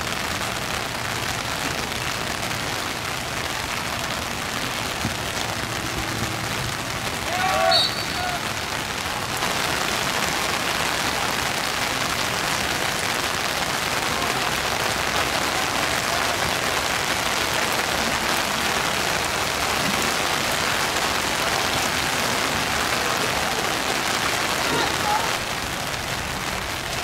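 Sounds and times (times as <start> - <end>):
pouring rain: 0.0 - 27.0.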